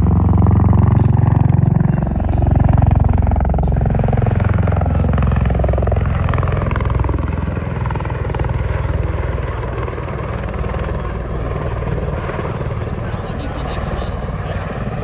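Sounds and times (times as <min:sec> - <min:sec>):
deep engine drone: 0:00.0 - 0:15.0
tiltrotor aircraft rotor beat: 0:00.0 - 0:15.0.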